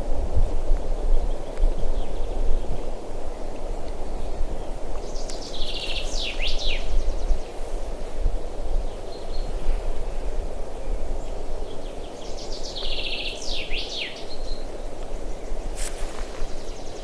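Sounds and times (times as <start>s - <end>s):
songbird singing trill: 1.0s - 17.0s.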